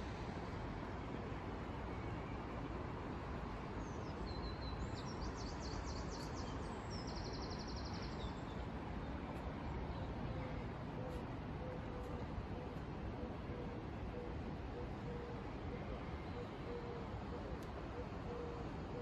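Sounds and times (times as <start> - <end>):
city background hum: 0.0 - 19.0.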